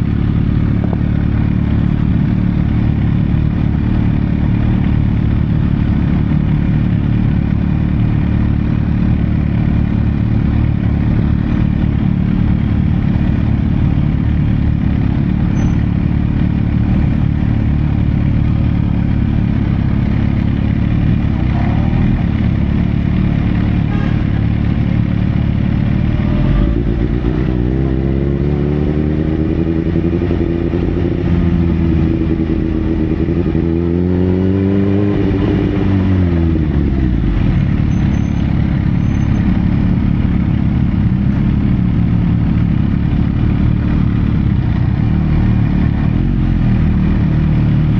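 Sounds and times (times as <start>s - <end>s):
motorcycle engine rumbling and revving: 0.0s - 47.9s.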